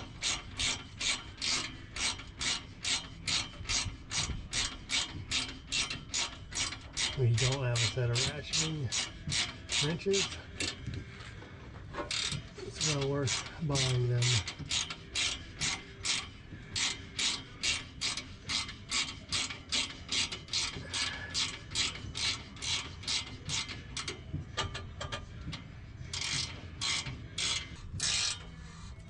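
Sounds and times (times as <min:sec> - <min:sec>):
ratcheting wrench clicking: 0:00.0 - 0:10.9, 0:12.0 - 0:28.6.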